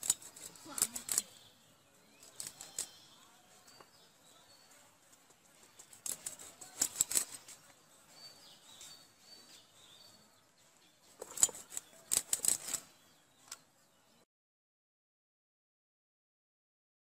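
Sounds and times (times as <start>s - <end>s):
faint bird chirps: 0.0s - 14.3s.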